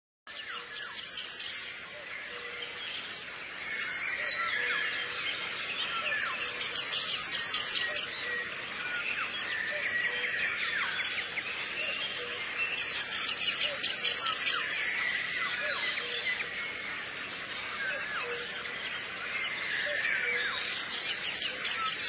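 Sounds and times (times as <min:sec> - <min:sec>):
songbirds chirping and singing: 0:00.3 - 0:22.0.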